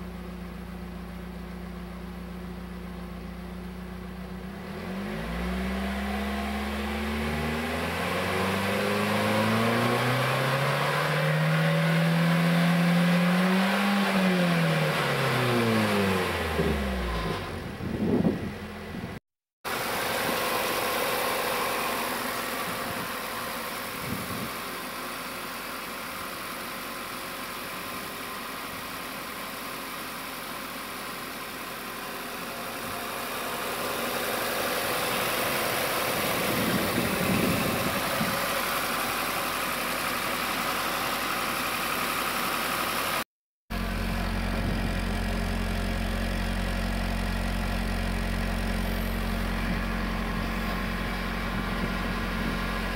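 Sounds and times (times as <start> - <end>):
car engine running and idling: 0.0 - 52.9.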